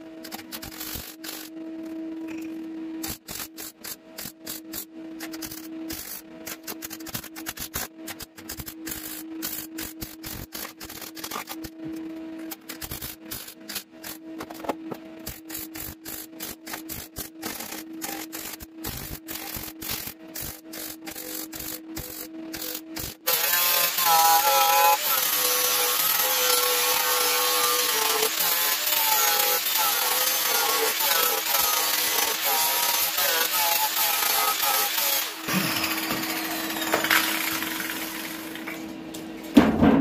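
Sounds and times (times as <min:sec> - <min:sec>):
welder hum: 0:00.0 - 0:39.6
welding arc crackling: 0:03.0 - 0:11.6, 0:15.2 - 0:38.7.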